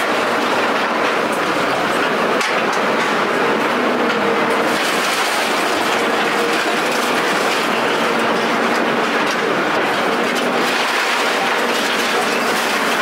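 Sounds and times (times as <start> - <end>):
loud rattling clatter: 0.0 - 13.0.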